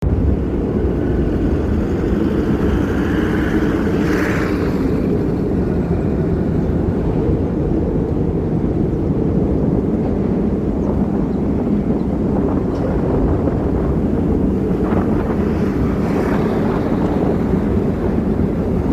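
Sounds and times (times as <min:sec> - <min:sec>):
storm wind on microphone: 0:00.0 - 0:18.9.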